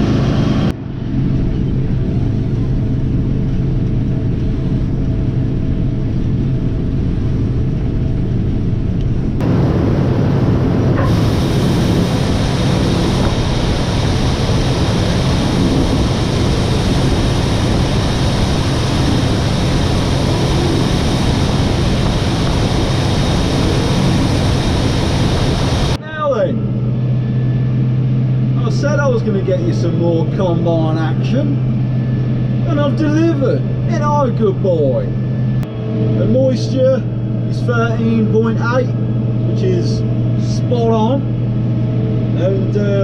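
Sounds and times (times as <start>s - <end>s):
diesel machinery engine drone: 0.0s - 43.0s.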